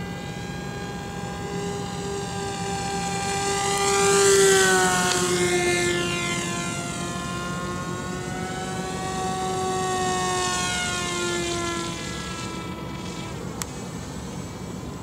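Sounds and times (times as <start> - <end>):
model plane motor whine: 0.0 - 15.0.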